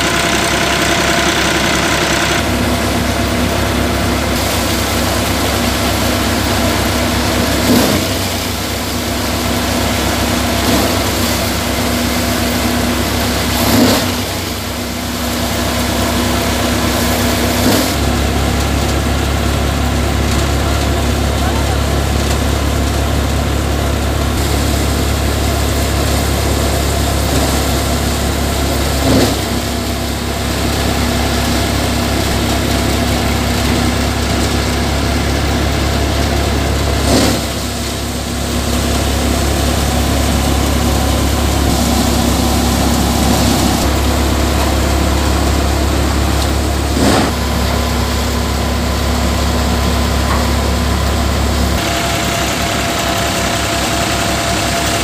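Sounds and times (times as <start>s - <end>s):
thresher and tractor engine hum: 0.0s - 55.0s.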